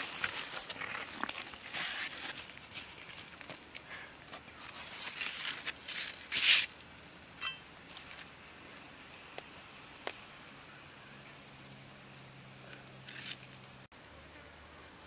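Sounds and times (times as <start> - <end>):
leaves rustling and crinkling: 0.0 - 10.6, 12.0 - 14.5.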